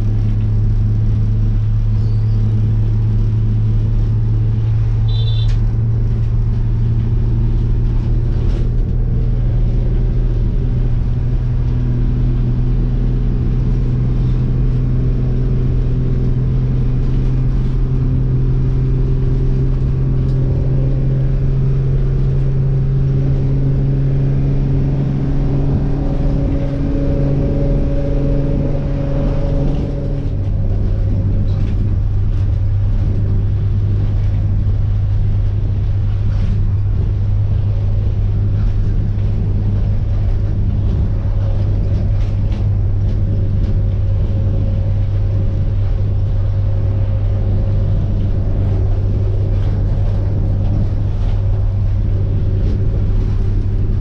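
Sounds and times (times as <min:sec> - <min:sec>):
bus engine humming under load: 0:00.0 - 0:54.0.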